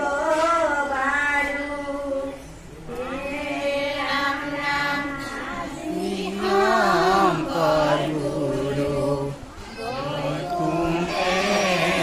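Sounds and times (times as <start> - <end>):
children singing a devotional chant: 0.0 - 12.0.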